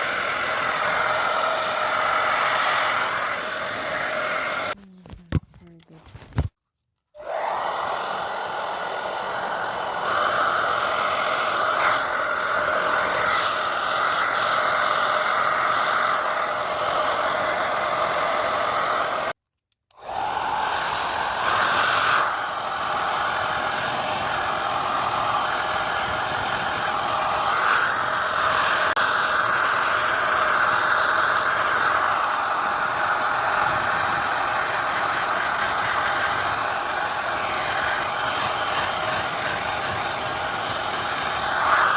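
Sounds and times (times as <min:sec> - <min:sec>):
hair dryer blowing: 0:00.0 - 0:04.8, 0:07.2 - 0:19.4, 0:20.0 - 0:41.9.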